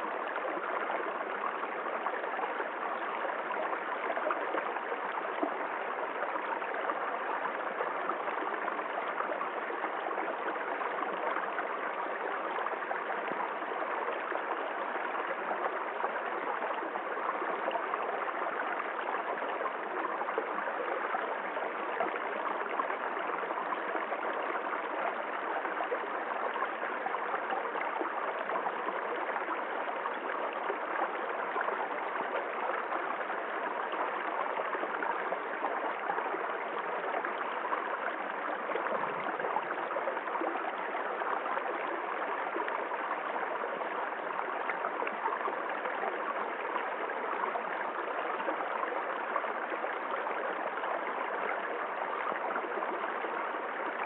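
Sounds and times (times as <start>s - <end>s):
stream rippling over stones: 0.0s - 54.0s.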